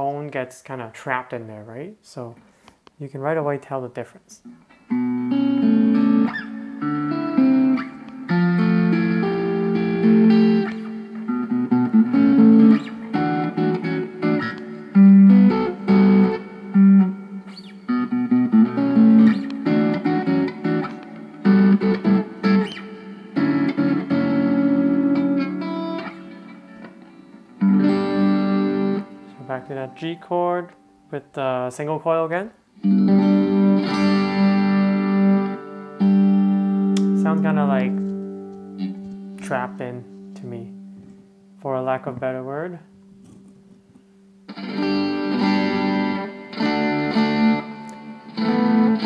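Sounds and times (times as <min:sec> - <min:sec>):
electric guitar chords: 0:04.5 - 0:32.0, 0:32.6 - 0:49.0.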